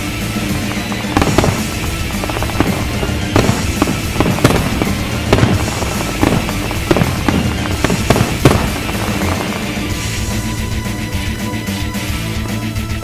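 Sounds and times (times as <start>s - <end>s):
fireworks exploding: 0.0s - 11.4s
music playing: 0.0s - 13.0s.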